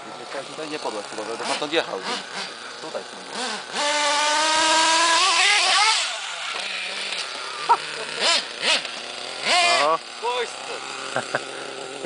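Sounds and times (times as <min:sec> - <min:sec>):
model truck engine whining: 0:00.0 - 0:12.0.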